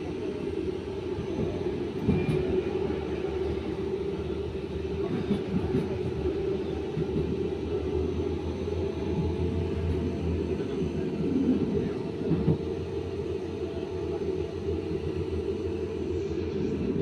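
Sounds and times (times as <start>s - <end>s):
tram rolling on rails: 0.0s - 17.0s.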